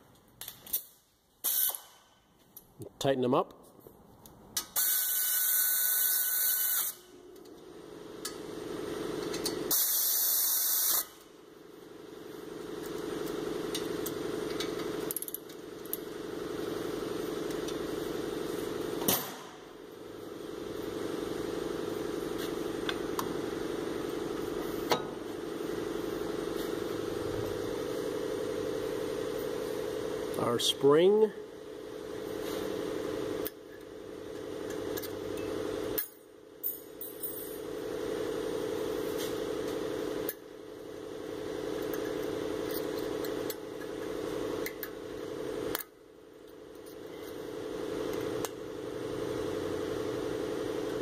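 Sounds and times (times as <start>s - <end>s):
steady mechanical hum: 0.0s - 51.0s.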